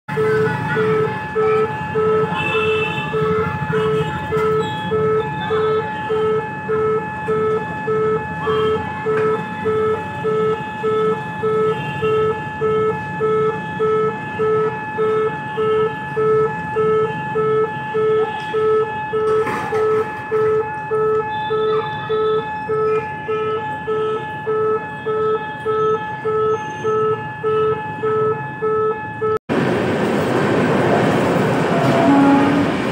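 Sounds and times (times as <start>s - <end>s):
level crossing alarm tone: 0.1s - 29.4s
low traffic rumble: 0.1s - 32.9s.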